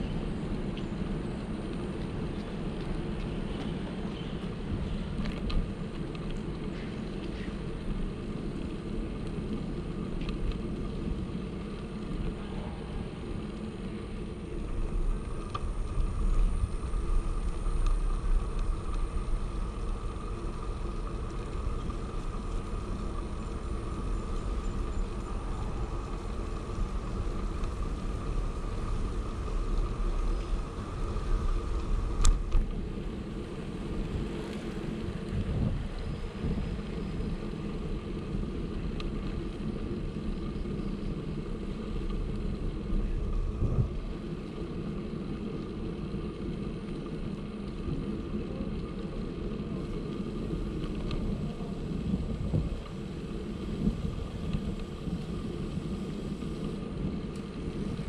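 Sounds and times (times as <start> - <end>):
bicycle tyres on path: 0.0 - 58.0
wind on microphone: 11.1 - 58.0.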